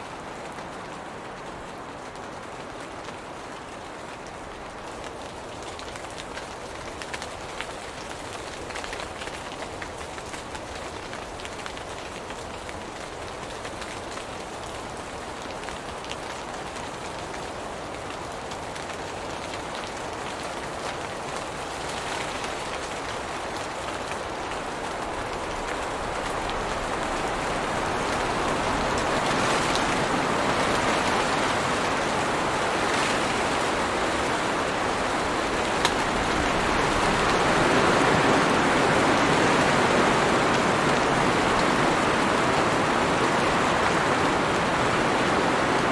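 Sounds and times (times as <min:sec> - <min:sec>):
rain falling on leaves: 0:00.0 - 0:45.9.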